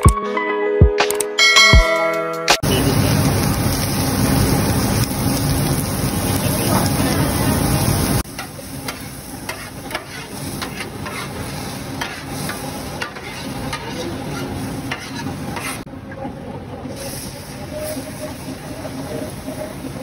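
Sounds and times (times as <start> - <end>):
food sizzling on a pan: 2.6 - 15.9, 16.9 - 20.0.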